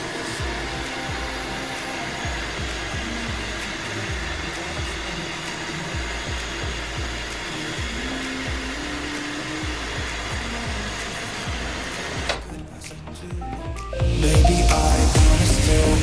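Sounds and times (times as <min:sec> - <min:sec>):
background music with beat: 0:00.0 - 0:16.0.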